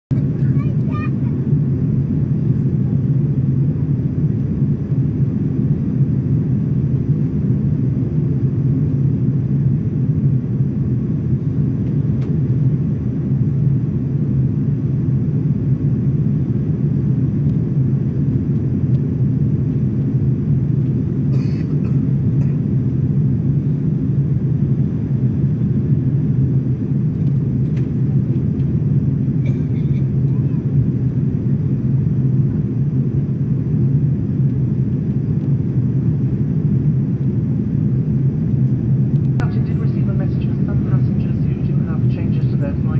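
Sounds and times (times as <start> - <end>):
jet airliner cabin rumble: 0.1 - 42.9.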